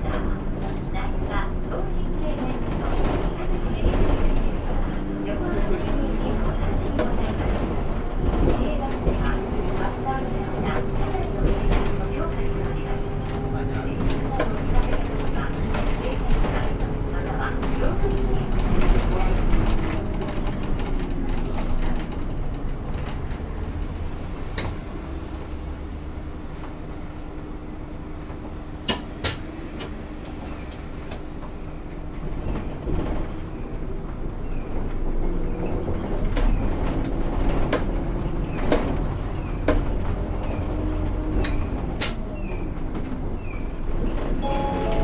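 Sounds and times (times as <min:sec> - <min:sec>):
bus engine hum: 0:00.0 - 0:45.0.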